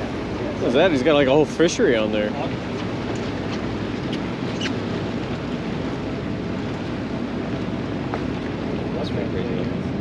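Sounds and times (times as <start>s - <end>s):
boat engine low rumble: 0.0s - 10.0s.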